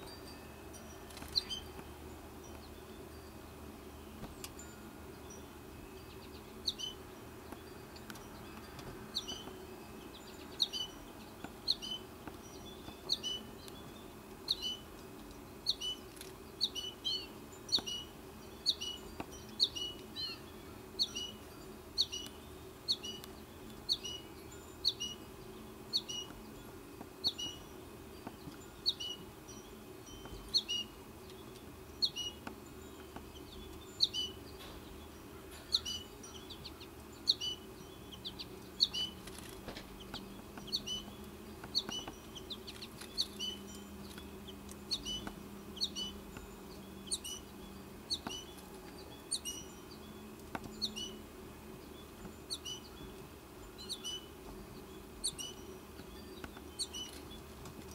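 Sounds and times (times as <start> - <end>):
faint background hum: 0.0 - 57.9.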